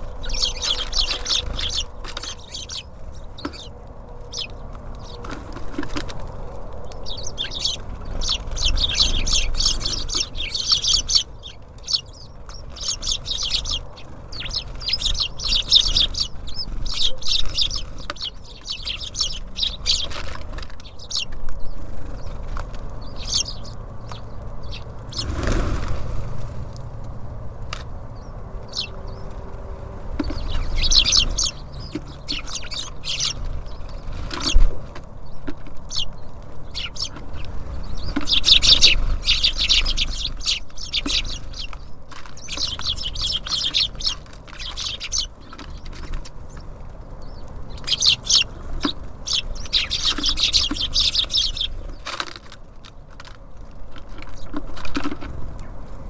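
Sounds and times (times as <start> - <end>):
steady low rumble: 0.0 - 52.0
songbirds chirping: 0.0 - 56.0.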